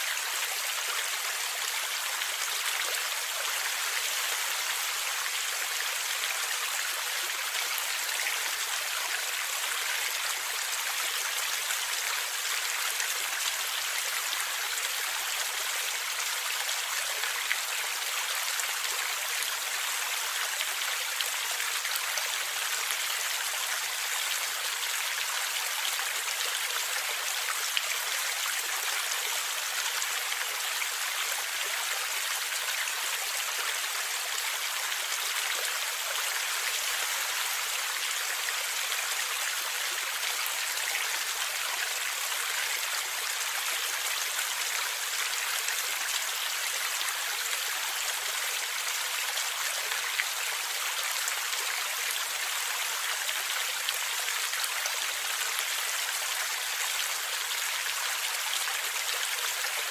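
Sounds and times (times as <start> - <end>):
stream water gurgling: 0.0 - 59.9.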